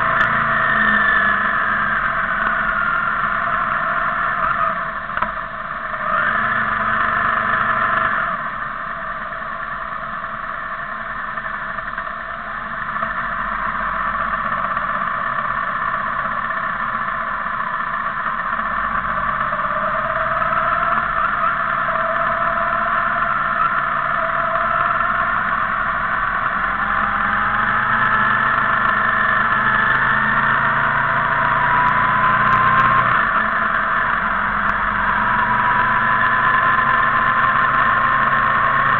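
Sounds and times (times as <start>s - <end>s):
motorcycle engines running: 0.0s - 38.9s.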